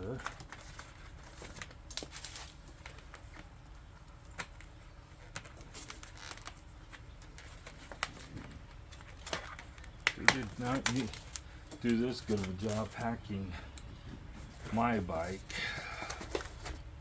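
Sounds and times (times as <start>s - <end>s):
packaging rustling: 0.0s - 17.0s.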